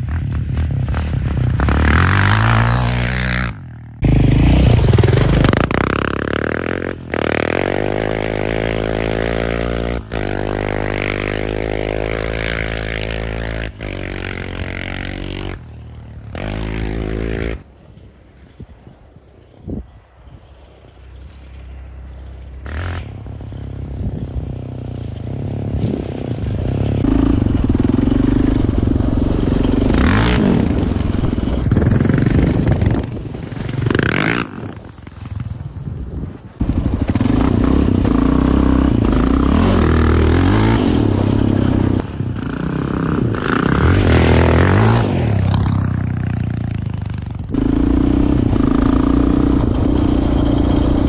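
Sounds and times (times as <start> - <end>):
quad engine revving: 0.0 - 15.7, 16.3 - 17.6, 22.6 - 24.6, 25.2 - 35.3, 36.6 - 51.0.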